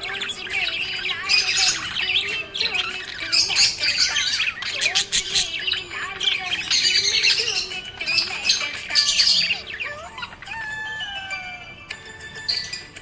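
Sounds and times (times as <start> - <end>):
budgerigar chirping and warbling: 0.0 - 11.3, 12.4 - 13.0.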